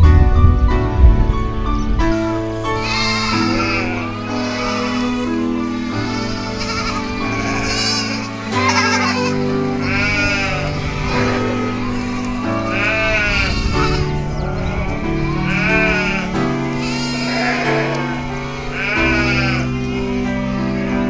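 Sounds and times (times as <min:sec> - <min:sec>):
background music with held chords: 0:00.0 - 0:21.0
goat kids bleating: 0:02.6 - 0:21.0.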